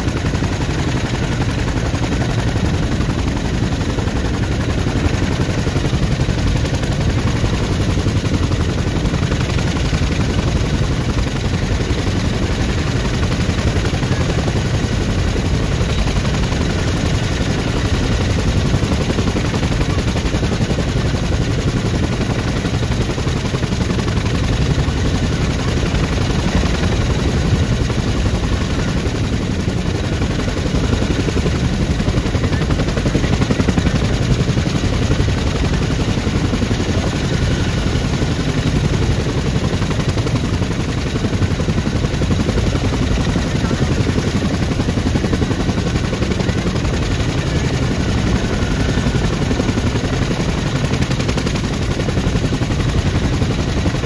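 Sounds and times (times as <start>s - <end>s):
helicopter rotor blades chopping: 0.0s - 54.0s.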